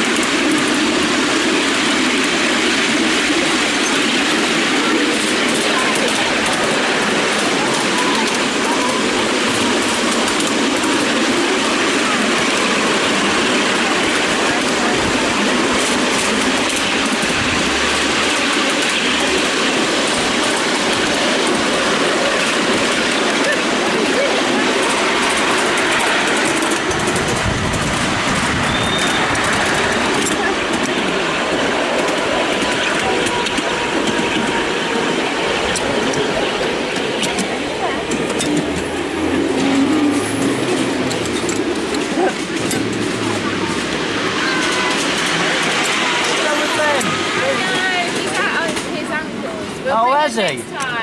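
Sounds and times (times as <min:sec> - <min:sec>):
small train wheels rumbling on rails: 0:00.0 - 0:51.0.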